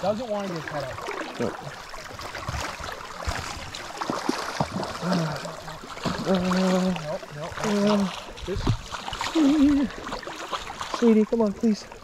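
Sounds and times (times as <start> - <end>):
river rushing and gurgling: 0.0 - 12.0
sharp knocks and splashes: 0.0 - 12.0.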